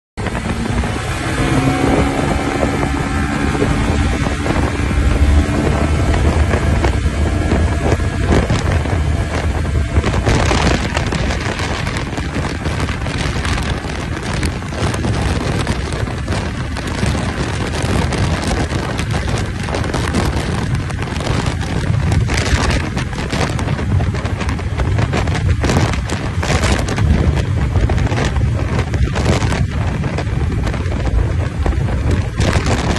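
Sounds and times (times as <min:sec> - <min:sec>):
road noise: 0:00.2 - 0:32.9
wind buffeting microphone: 0:00.2 - 0:32.9.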